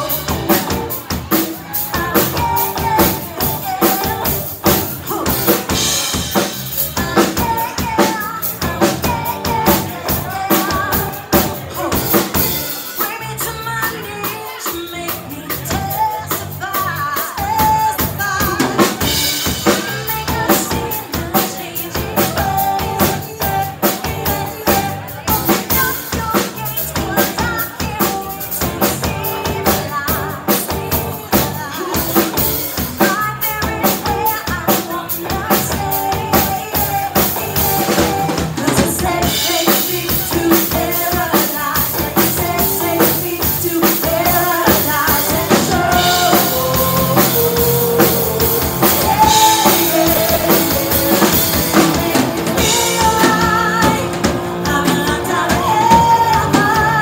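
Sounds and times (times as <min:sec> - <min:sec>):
bass guitar: 0:00.0 - 0:57.0
drum kit beat: 0:00.0 - 0:57.0
electric guitar: 0:00.0 - 0:57.0
women singing: 0:01.9 - 0:06.0, 0:07.0 - 0:12.2, 0:12.9 - 0:57.0.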